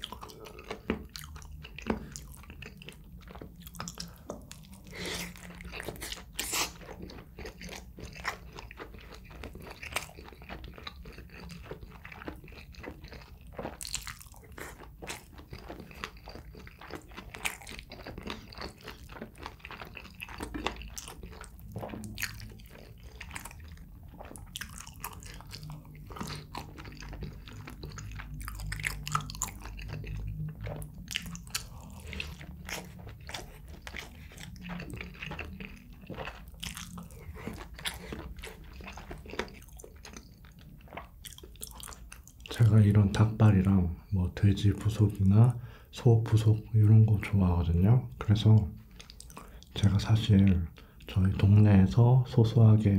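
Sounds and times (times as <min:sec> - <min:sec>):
person chewing food: 0:00.0 - 0:52.9.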